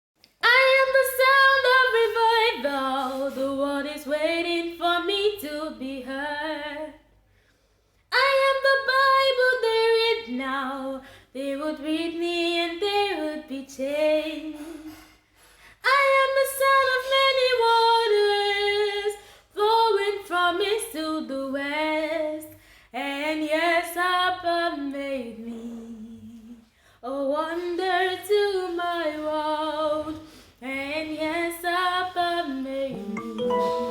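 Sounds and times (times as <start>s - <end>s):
woman singing unaccompanied: 0.4s - 7.0s, 8.1s - 14.9s, 15.8s - 33.9s.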